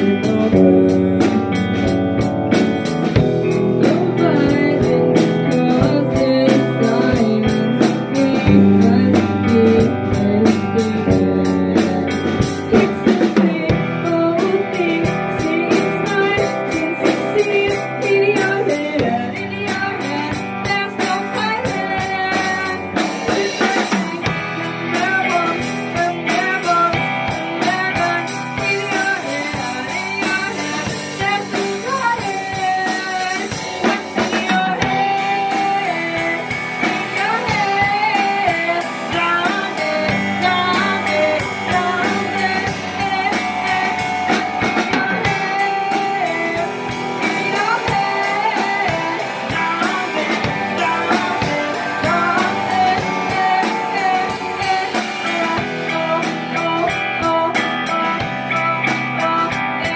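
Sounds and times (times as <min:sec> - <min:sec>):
drum kit: 0:00.0 - 0:59.9
electric guitars: 0:00.0 - 0:59.9
woman singing: 0:00.0 - 0:59.9.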